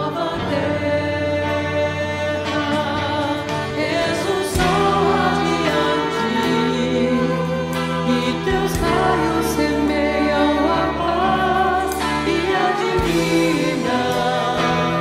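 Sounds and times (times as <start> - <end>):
backing singers: 0.0 - 15.0
woman singing lead: 0.0 - 15.0.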